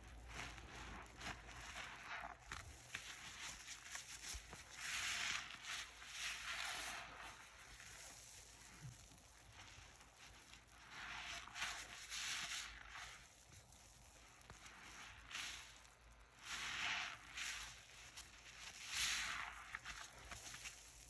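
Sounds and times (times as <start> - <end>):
crackling foam: 0.0 - 21.0
sponge squelching: 0.0 - 21.0.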